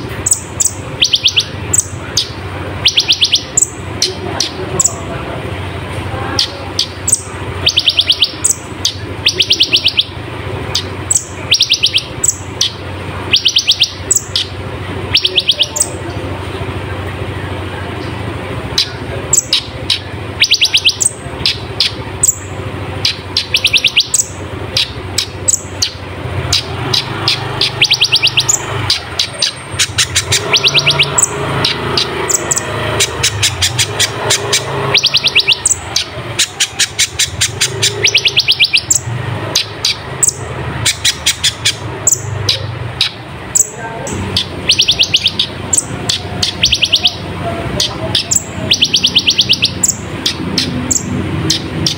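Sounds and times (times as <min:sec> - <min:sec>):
sunbird buzzy trills: 0:00.0 - 0:05.1, 0:06.4 - 0:16.1, 0:18.0 - 0:51.9.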